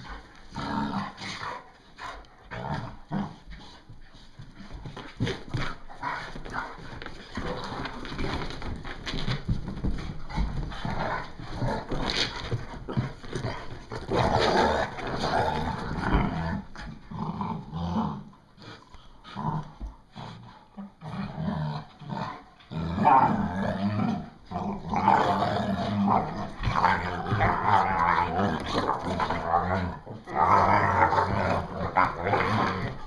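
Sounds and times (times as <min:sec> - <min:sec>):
dogs growling: 0:00.0 - 0:33.0.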